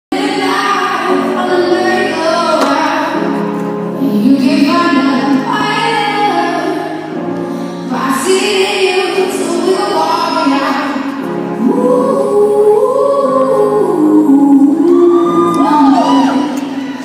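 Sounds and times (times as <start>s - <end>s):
slow song with singing voice: 0.1s - 17.0s.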